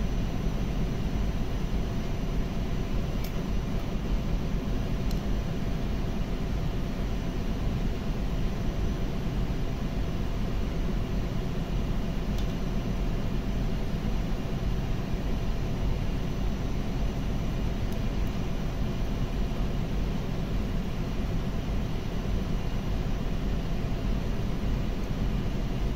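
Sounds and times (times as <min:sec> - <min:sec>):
faint hum: 0:00.0 - 0:25.9.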